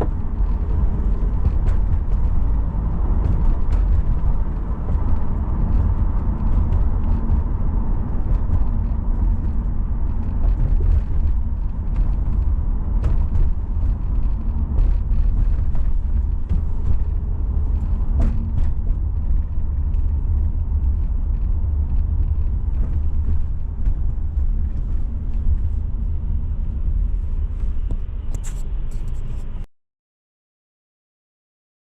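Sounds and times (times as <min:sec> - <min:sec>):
car road and engine rumble: 0:00.0 - 0:29.7.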